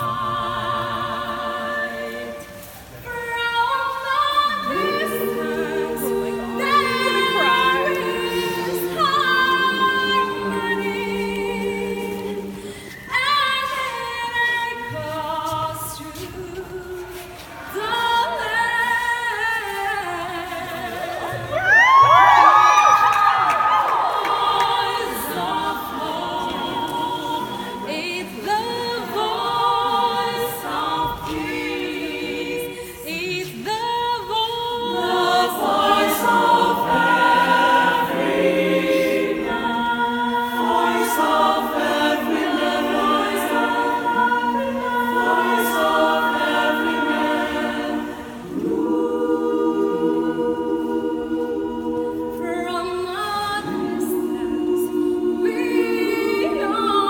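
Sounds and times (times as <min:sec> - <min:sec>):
mixed choir singing a cappella: 0:00.0 - 0:57.0.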